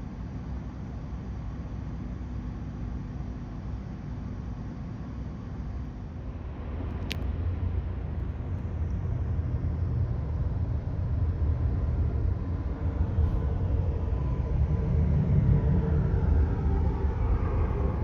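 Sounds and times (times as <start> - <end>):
jet airliner engines rumbling: 0.0 - 18.0
faint engine tones: 0.1 - 18.0.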